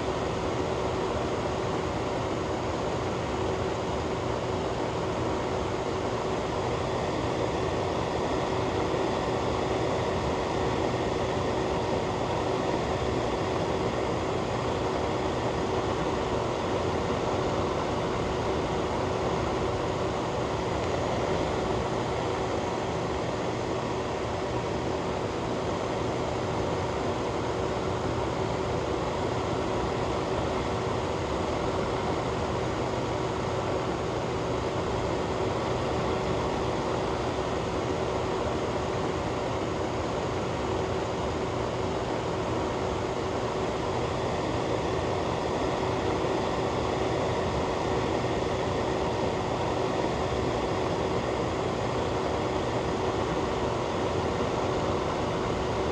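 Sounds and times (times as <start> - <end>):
ventilation fan rushing air: 0.0 - 55.9.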